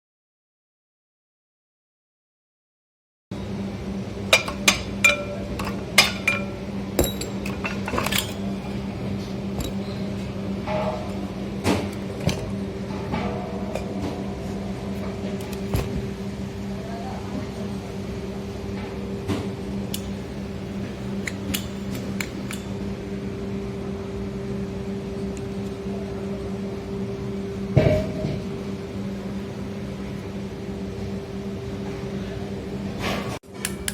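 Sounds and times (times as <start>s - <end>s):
steady low hum: 3.4s - 33.9s.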